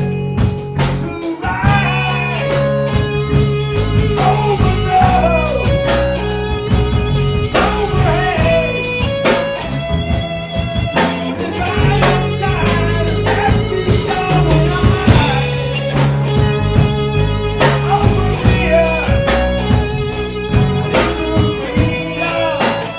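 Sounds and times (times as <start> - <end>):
bass guitar: 0.0 - 22.9
drums: 0.0 - 22.9
electric guitar bending notes: 0.0 - 22.9.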